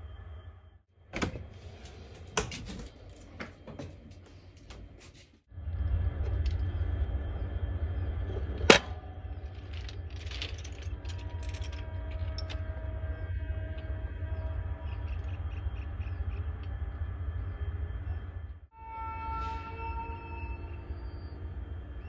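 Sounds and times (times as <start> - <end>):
train rumbling: 1.2 - 22.0.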